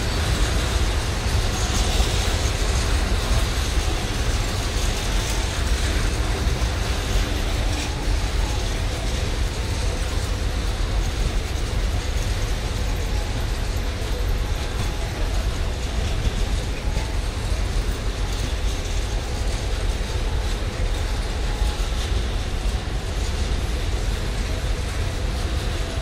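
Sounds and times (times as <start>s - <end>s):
steel wheels rumbling on rails: 0.0s - 26.0s.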